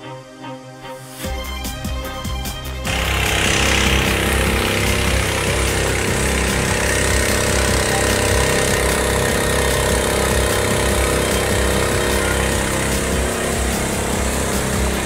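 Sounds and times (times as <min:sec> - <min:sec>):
motor running steadily: 0:01.5 - 0:15.0.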